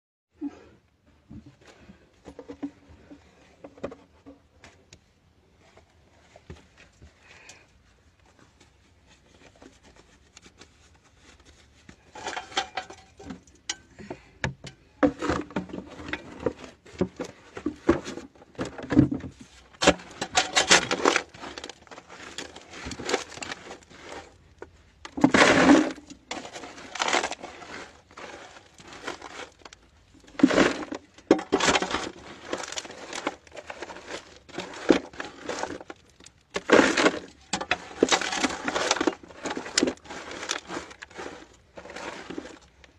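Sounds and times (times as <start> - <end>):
soil and rubble scraping: 0.4 - 42.9.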